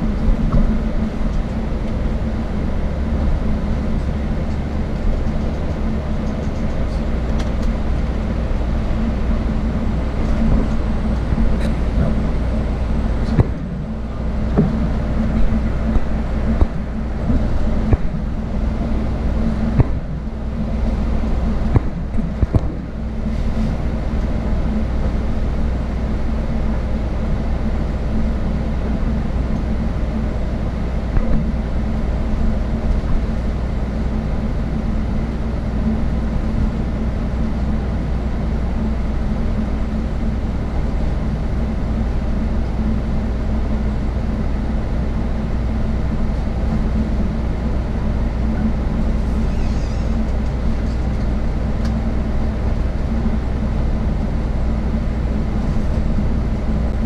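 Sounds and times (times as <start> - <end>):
bus engine and tyre rumble: 0.0 - 57.0.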